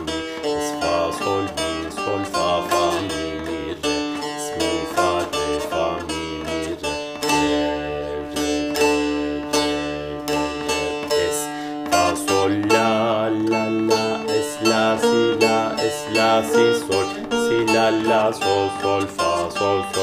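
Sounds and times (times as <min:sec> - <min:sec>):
plucked lute melody: 0:00.0 - 0:20.0.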